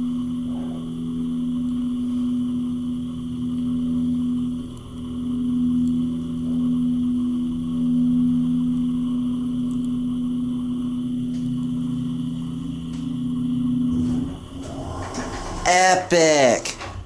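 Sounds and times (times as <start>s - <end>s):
elevator pump motor humming: 0.0s - 17.0s.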